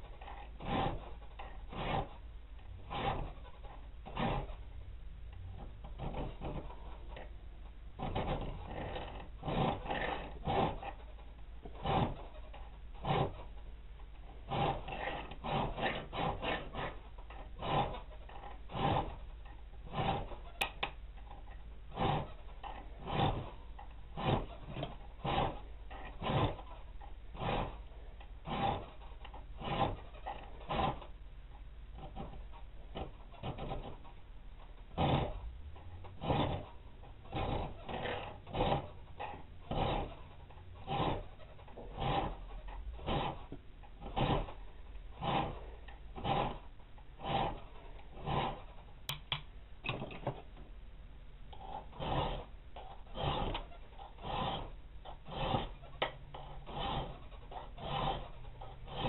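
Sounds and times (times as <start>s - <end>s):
file scraping steel: 0.0s - 50.7s, 51.5s - 59.0s.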